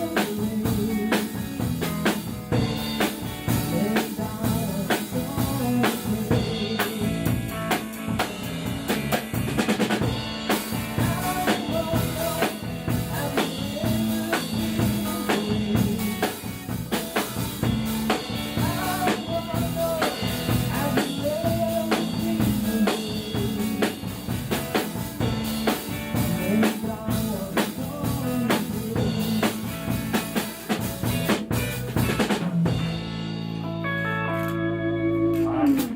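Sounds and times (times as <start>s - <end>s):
drum kit beat: 0.0s - 34.2s
bass and guitar: 0.0s - 35.9s.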